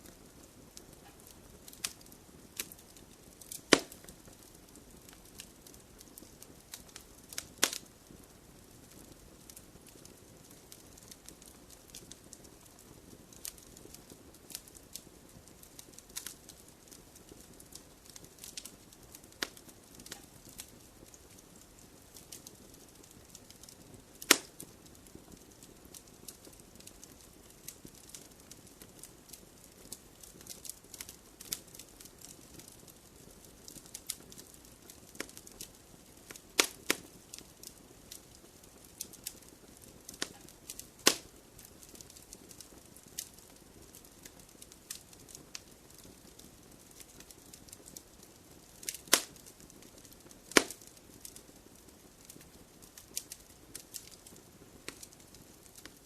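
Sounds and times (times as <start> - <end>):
loud fire pops: 0.0 - 51.4, 52.2 - 56.0
faint hiss: 0.0 - 56.0
wood fire crackling: 0.0 - 56.0.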